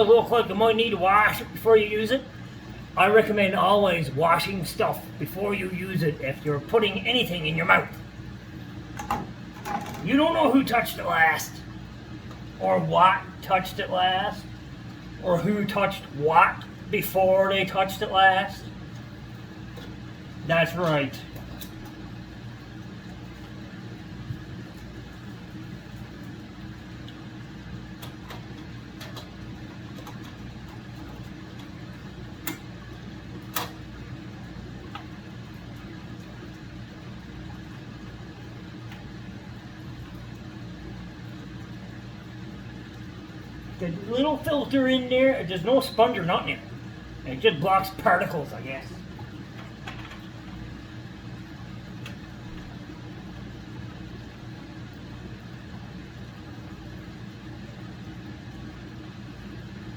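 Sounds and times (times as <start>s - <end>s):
low background hum: 0.0s - 59.9s.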